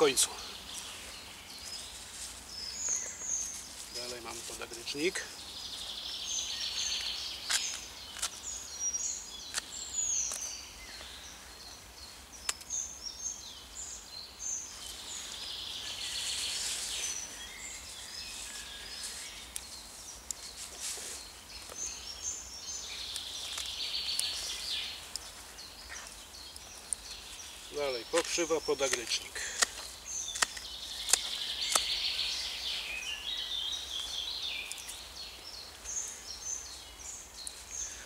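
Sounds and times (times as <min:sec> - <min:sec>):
songbirds singing: 0:00.0 - 0:38.0.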